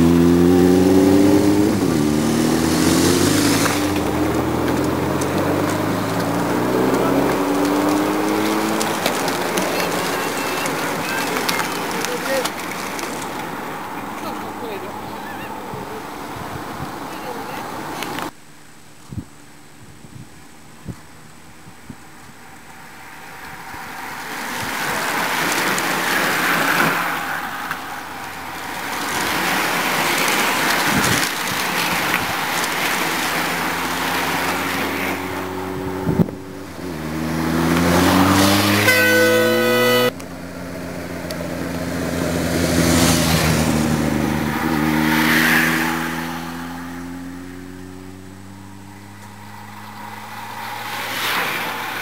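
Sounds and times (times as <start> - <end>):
bicycle tyres rushing past: 0.0 - 18.4, 21.7 - 52.0
vehicle engines passing: 0.0 - 52.0.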